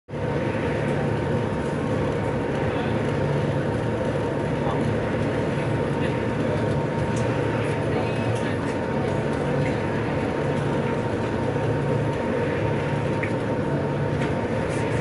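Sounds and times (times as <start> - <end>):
ferry engines droning: 0.1 - 15.0.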